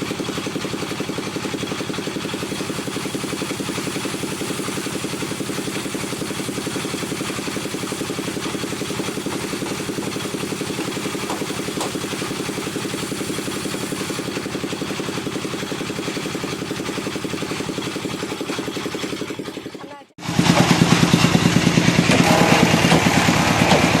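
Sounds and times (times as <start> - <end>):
wood lathe pulsing hum: 0.0 - 24.0.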